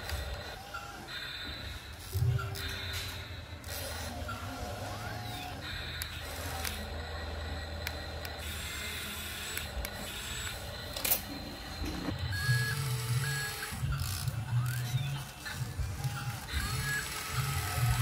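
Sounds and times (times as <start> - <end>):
small electric motors whirring: 0.0 - 18.0.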